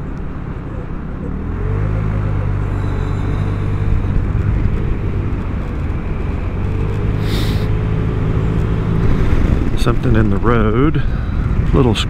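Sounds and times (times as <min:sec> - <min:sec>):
scooter engine cruising: 0:00.0 - 0:11.7
wind and road noise: 0:00.0 - 0:12.0.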